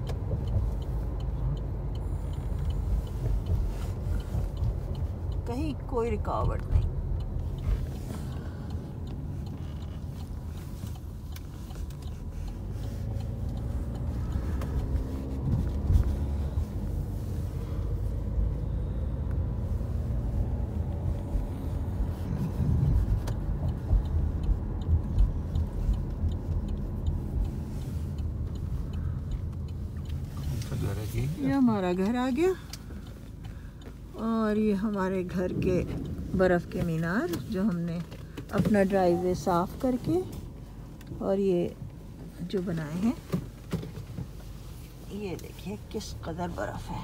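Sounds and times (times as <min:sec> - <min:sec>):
car cabin rumble: 0:00.0 - 0:47.0.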